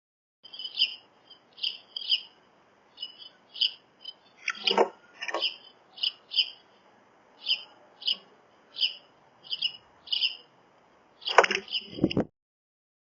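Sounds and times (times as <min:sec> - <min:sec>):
songbird chirping: 0:00.4 - 0:12.1.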